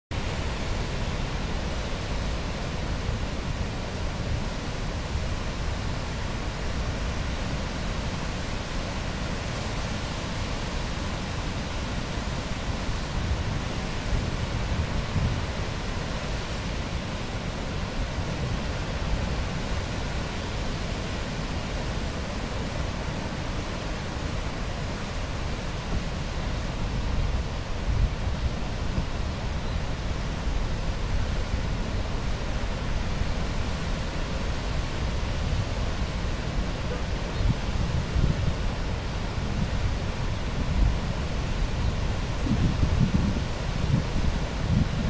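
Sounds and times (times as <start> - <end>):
wind: 0.1 - 45.0.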